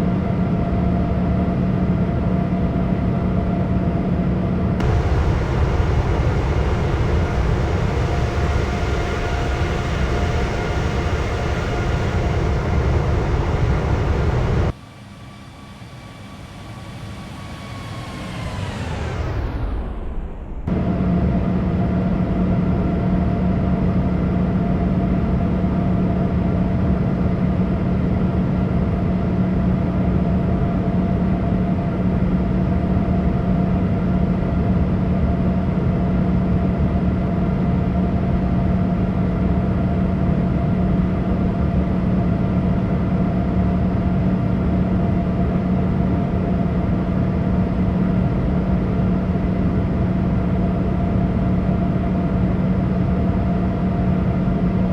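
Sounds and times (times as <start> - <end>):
airplane cabin drone: 0.0 - 54.9.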